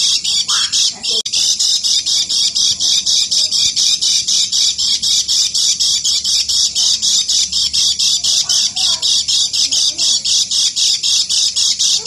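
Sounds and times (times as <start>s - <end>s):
bird singing rapid chattering song: 0.0s - 12.0s.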